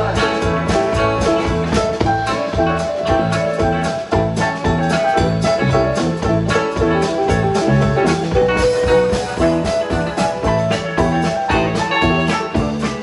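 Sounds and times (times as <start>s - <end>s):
live country-rock band: 0.0s - 13.0s.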